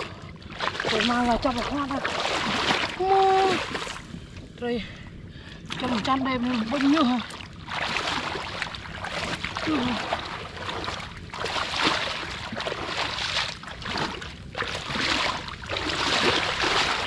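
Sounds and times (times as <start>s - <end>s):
shallow water sloshing: 0.0s - 17.0s.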